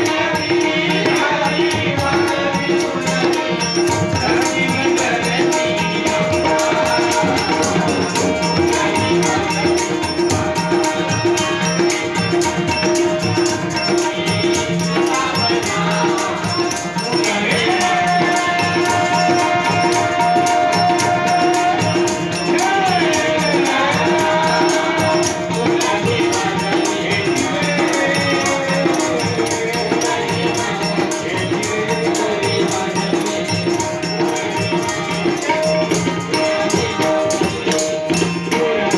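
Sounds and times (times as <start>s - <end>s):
person singing devotional song: 0.0s - 38.9s
rhythmic percussion: 0.0s - 38.9s.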